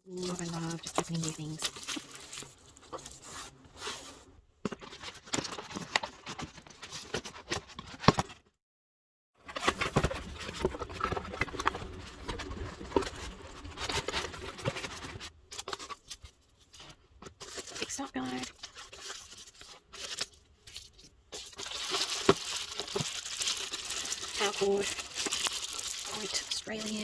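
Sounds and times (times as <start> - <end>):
cardboard packaging rustling: 0.1 - 8.4, 9.5 - 27.0.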